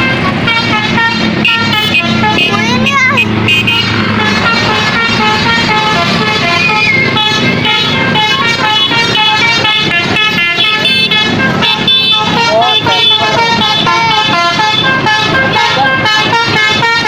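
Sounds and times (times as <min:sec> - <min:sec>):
motorcycle engines rumbling: 0:00.0 - 0:17.0
musical bus horns melody: 0:00.0 - 0:17.0.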